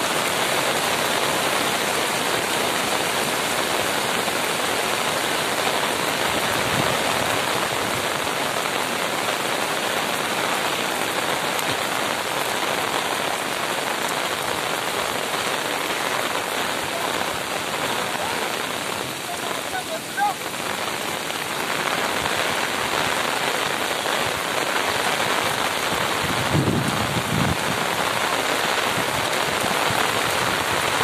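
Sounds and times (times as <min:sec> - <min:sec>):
floodwater rushing: 0:00.0 - 0:31.0
heavy rain: 0:00.0 - 0:31.0.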